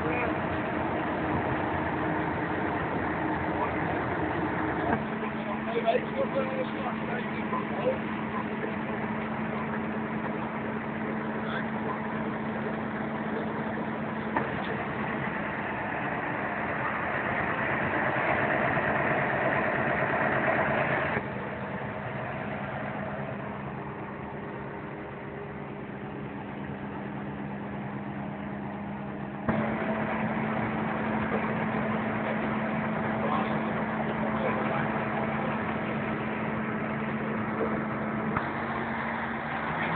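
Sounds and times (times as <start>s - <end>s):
harvester engine drone: 0.0s - 39.9s.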